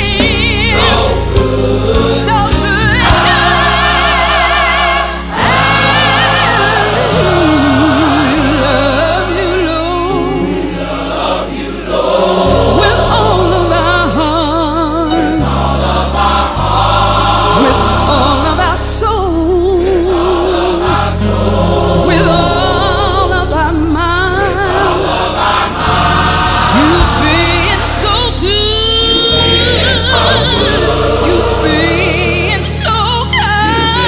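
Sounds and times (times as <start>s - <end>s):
gospel choir singing: 0.0s - 34.0s
instrumental backing: 0.0s - 34.0s.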